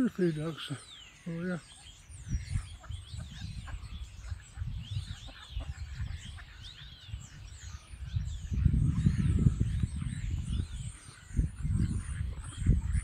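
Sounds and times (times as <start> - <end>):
birds chirping: 0.0 - 13.0
wind rumble: 2.0 - 13.0.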